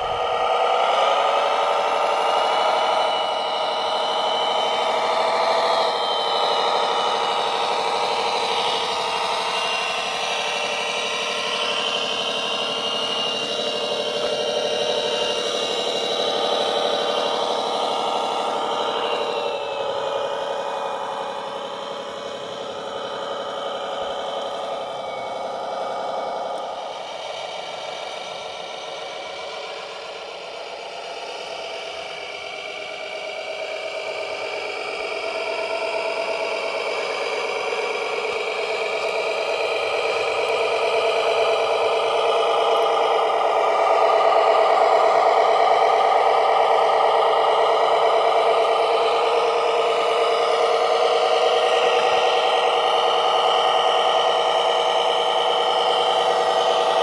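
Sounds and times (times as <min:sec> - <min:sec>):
toy truck motor drone: 0:00.0 - 0:57.0.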